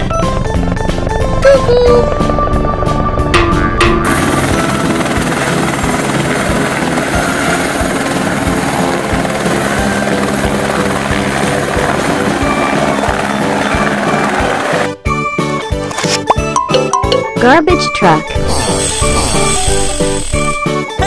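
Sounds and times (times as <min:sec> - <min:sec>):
helicopter rotor and turbine: 0:00.0 - 0:15.6, 0:18.2 - 0:21.0.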